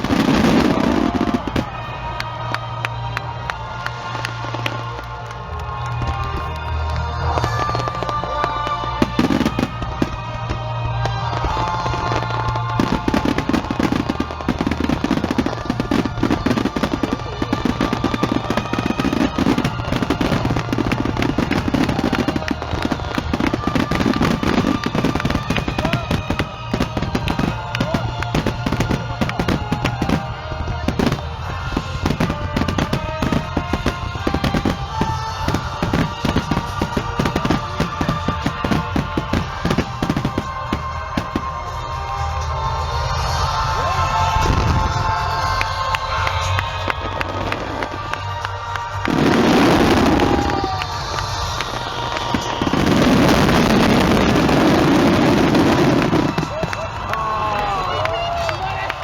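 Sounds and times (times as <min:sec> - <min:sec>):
fireworks bursting and crackling: 0:00.0 - 0:59.0
music playing: 0:00.0 - 0:59.0.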